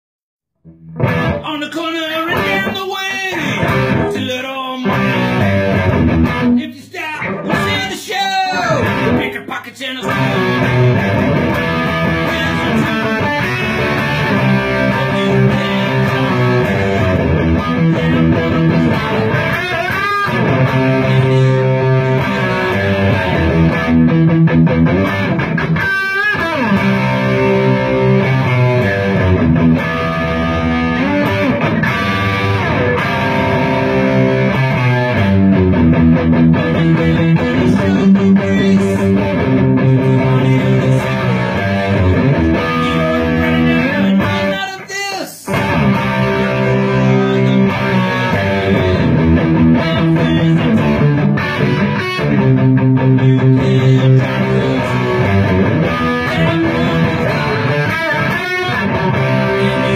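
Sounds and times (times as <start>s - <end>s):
guitar pitch slides: 0.6s - 1.5s, 4.9s - 6.6s, 8.6s - 9.3s, 10.1s - 44.6s, 45.5s - 59.9s
electric guitar instrumental music: 0.6s - 44.9s, 45.5s - 59.9s.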